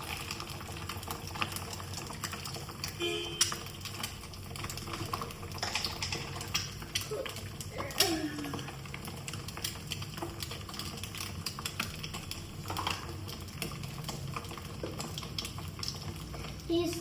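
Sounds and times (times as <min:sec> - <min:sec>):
hot oil crackling in a frying pan: 0:00.0 - 0:17.0.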